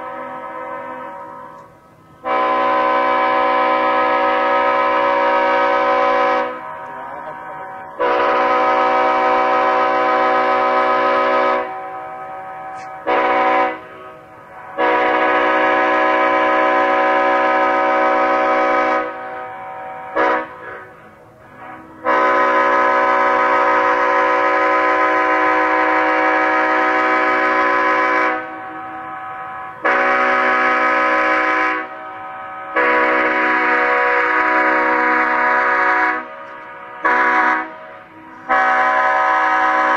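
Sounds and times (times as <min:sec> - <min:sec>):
locomotive air horn blasts: 0:00.0 - 0:39.9.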